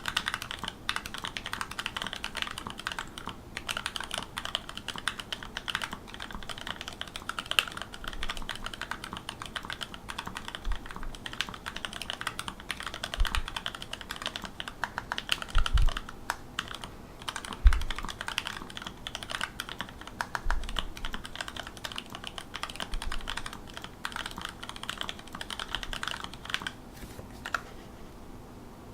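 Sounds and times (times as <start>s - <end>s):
typing on mechanical keyboard: 0.0s - 26.8s.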